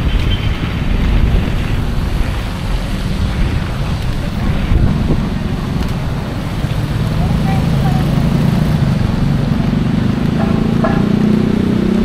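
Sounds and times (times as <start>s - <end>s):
heavy rain hiss: 0.0s - 12.0s
wind buffeting microphone: 0.0s - 12.0s.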